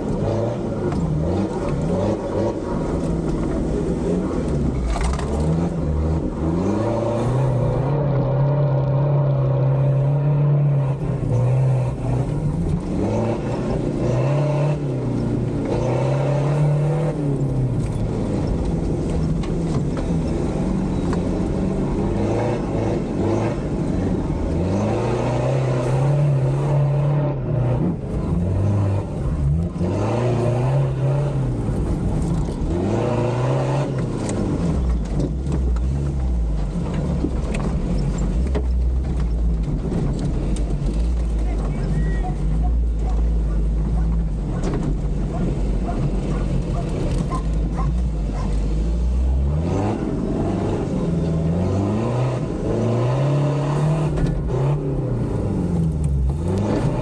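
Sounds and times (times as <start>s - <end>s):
deep steady rumble: 0.0s - 57.0s
off-road vehicle engine revving: 0.0s - 57.0s.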